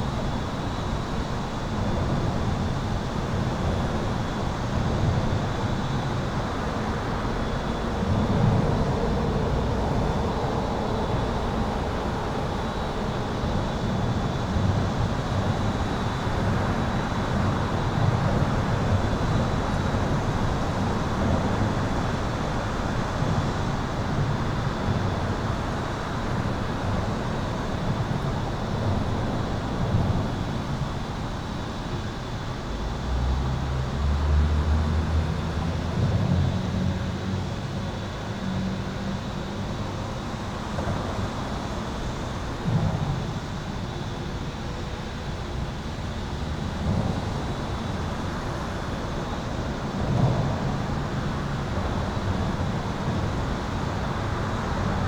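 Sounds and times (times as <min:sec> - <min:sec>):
highway traffic rumble: 0:00.0 - 0:55.0.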